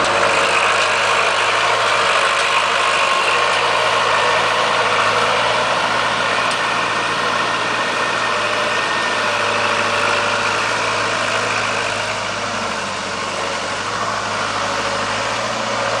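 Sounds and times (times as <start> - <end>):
loader engine running: 0.0 - 16.0.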